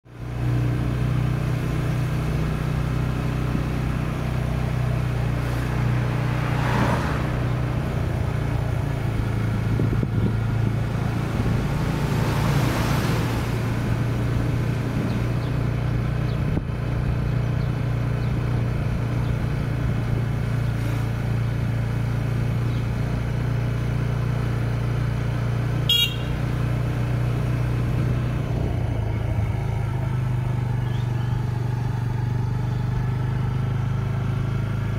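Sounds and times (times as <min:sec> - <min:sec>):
road noise: 0:00.0 - 0:34.9
vehicle engine drone: 0:00.0 - 0:34.9.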